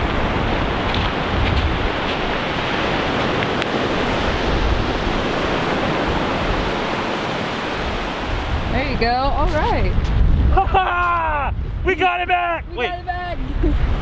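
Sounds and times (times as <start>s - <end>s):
ocean surf breaking on shore: 0.0s - 14.0s
wind buffeting microphone: 0.0s - 14.0s.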